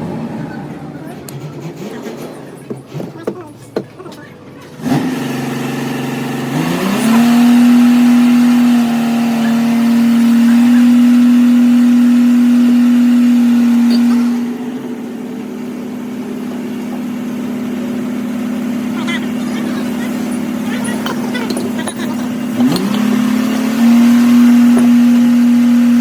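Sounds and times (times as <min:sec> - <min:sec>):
air impact wrench running: 0:04.7 - 0:26.0.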